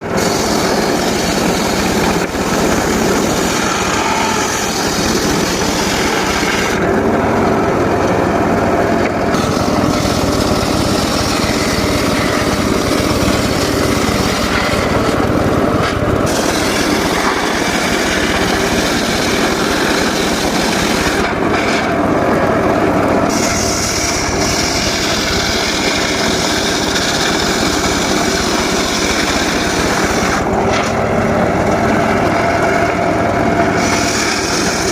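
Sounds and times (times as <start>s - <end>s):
circular saw cutting wood: 0.0s - 34.9s.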